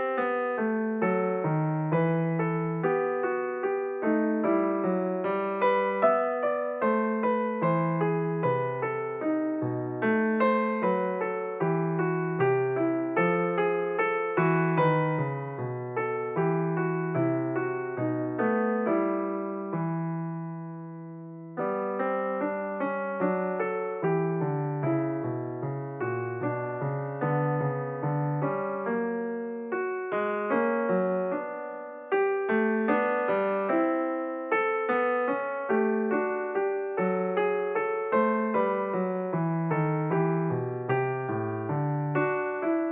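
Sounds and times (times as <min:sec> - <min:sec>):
gentle piano music: 0:00.0 - 0:42.9.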